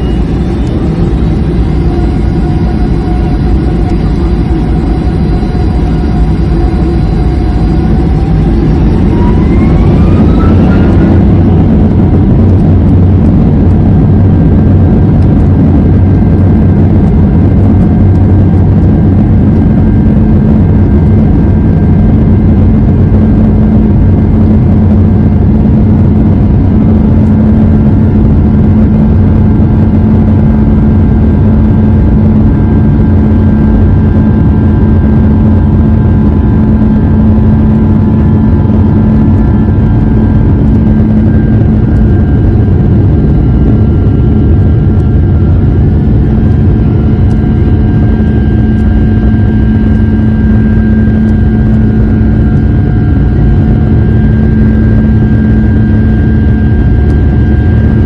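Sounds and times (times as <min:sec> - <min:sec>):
jet engines roaring in cabin: 0:00.0 - 0:58.0.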